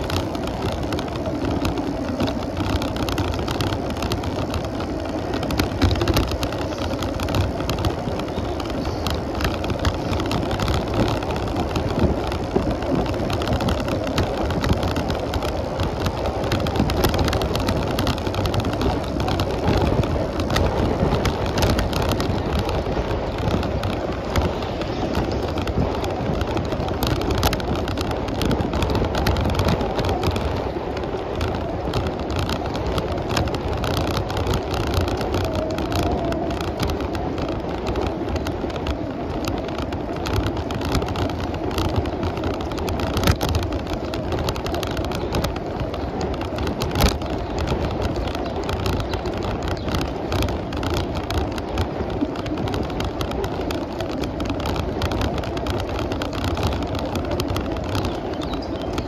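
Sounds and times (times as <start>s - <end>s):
bicycle clicks and rattles: 0.0s - 59.0s
bicycle tyres on paved road: 0.0s - 59.0s.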